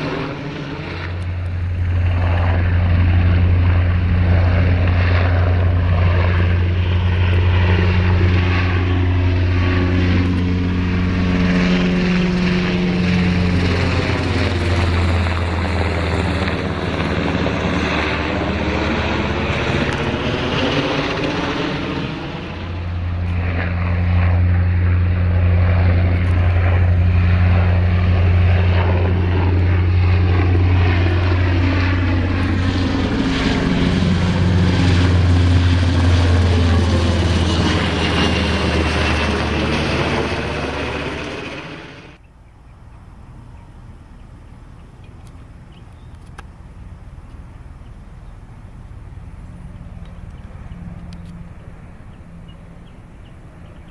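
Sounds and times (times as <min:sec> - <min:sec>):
aircraft whoosh passing by: 0:00.0 - 0:42.2, 0:46.6 - 0:53.9
military aircraft engine and rotor drone: 0:00.0 - 0:53.9.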